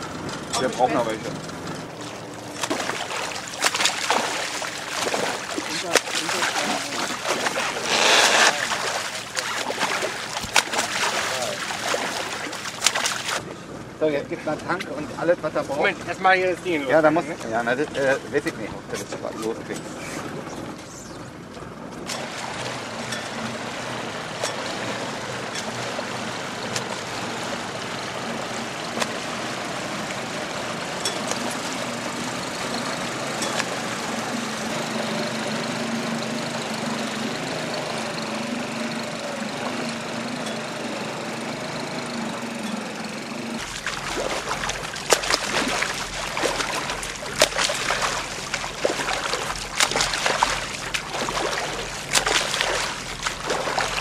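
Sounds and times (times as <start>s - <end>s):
water splashing from swimming strokes: 0.0s - 13.4s, 22.1s - 54.0s
boat motor humming: 0.0s - 54.0s.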